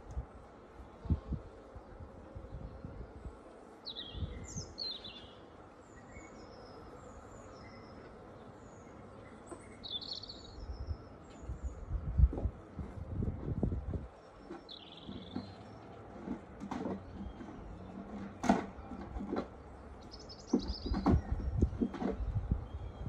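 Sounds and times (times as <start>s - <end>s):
small birds chirping and singing: 1.8s - 16.2s, 16.9s - 23.0s.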